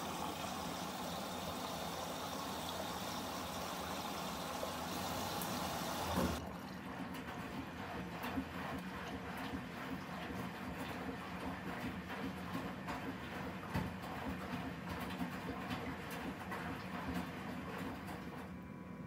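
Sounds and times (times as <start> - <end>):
water rushing into washing machine: 0.0 - 18.6.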